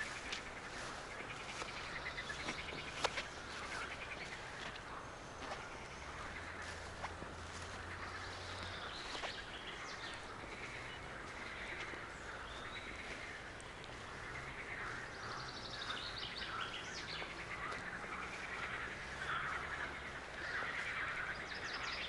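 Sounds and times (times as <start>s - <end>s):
songbirds singing and chirping: 0.0s - 22.0s.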